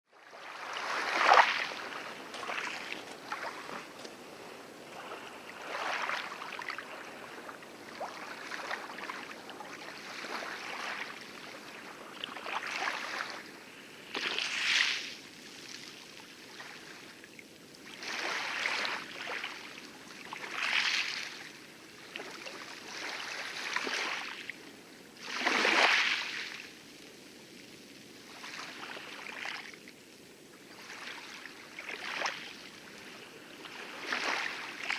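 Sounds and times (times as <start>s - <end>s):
waves lapping on reef: 0.1s - 34.9s
distant heavier surf hiss: 0.3s - 34.9s.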